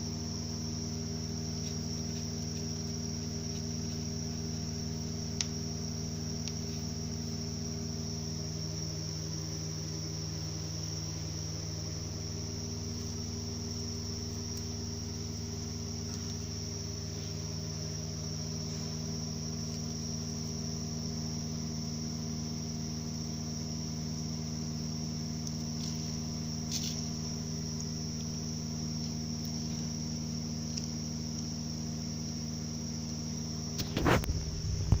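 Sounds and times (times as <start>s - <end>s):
gearbox hum with high whine: 0.0s - 35.0s.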